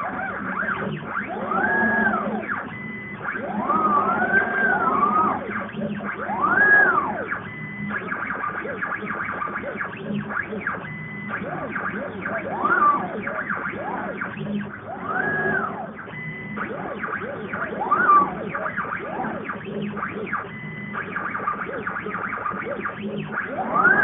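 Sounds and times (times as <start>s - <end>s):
stepper motors whining: 0.0s - 24.0s.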